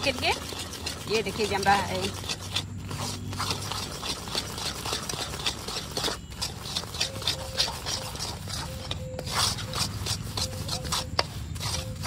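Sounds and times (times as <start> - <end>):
metal spatula scraping metal pan: 0.0 - 12.0.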